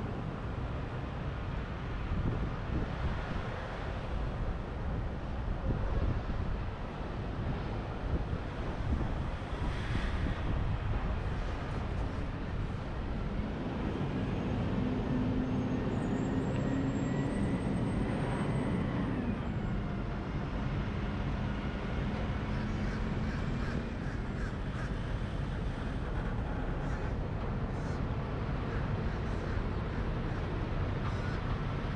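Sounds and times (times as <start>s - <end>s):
wind and road noise: 0.0s - 31.9s.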